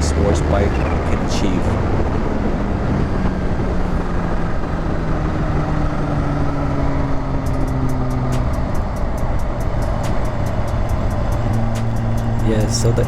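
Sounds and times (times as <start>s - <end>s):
heavy wind noise: 0.0s - 13.0s
motorcycle engine at speed: 0.0s - 13.0s.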